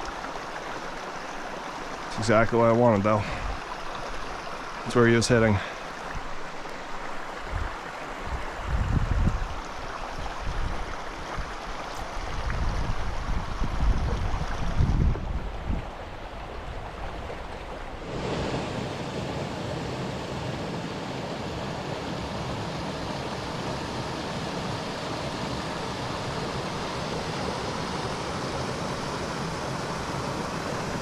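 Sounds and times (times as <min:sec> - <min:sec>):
stream rushing over rocks: 0:00.0 - 0:31.0.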